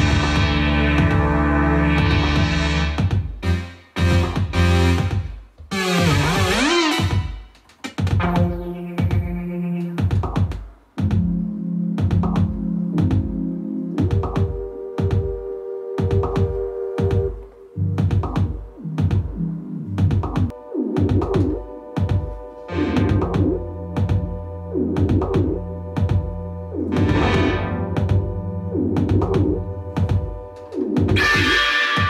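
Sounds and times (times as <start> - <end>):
synth bass line: 0.0 - 7.4, 8.2 - 10.0, 11.0 - 32.0
drum-machine hits: 0.0 - 11.4, 12.0 - 13.4, 14.0 - 15.4, 16.0 - 17.4, 18.0 - 19.4, 20.0 - 22.3, 22.9 - 24.4, 25.0 - 26.3, 26.9 - 32.0.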